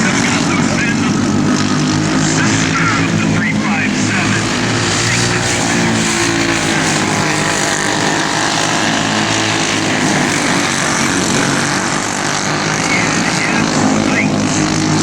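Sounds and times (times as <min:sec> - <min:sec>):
racing kart engines droning: 0:00.0 - 0:15.0.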